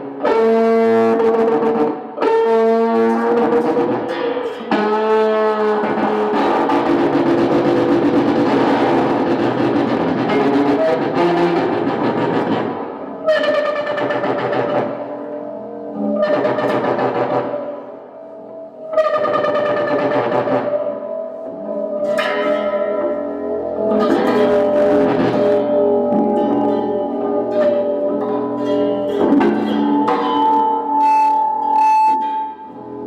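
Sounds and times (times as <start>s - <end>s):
distorted electric guitar sustained notes: 0.0s - 33.0s.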